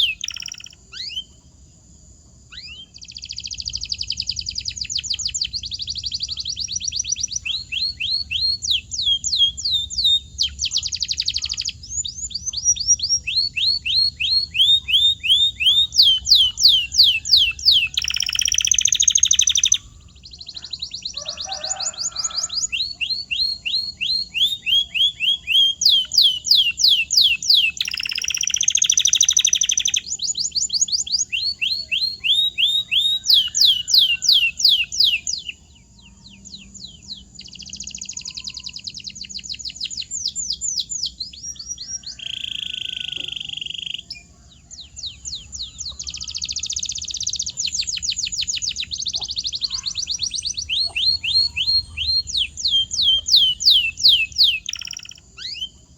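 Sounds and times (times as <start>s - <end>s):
canary singing: 0.0s - 1.5s, 2.4s - 55.9s.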